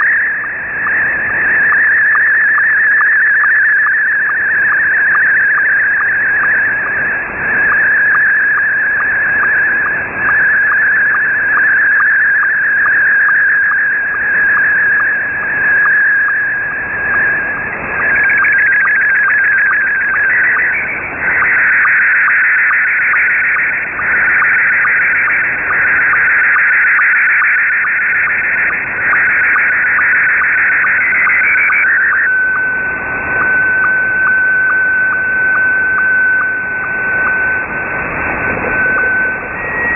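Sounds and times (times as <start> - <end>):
regular sync tick: 0.0 - 37.8
steady radio tone: 0.0 - 39.9
warbling radio tone: 0.0 - 39.9.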